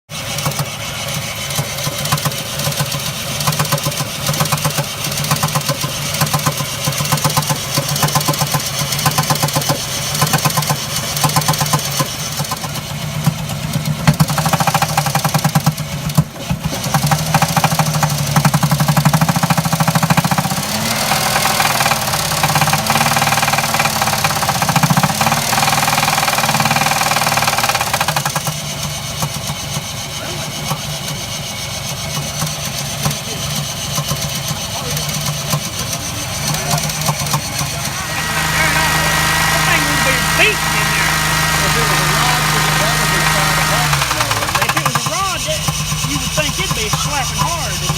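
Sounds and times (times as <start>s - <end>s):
car engine with knocking: 0.0s - 47.9s
engine revving: 0.1s - 47.9s.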